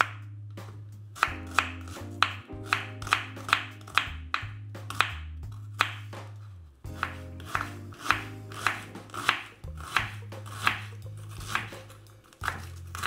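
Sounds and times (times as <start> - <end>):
knife chopping on wooden board: 0.0 - 0.2, 1.2 - 13.0.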